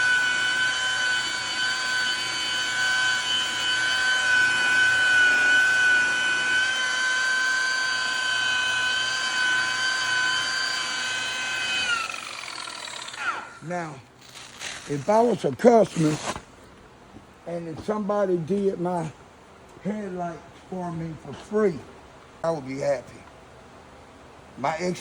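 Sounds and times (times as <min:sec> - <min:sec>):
rotary buffer whining: 0:00.0 - 0:22.7.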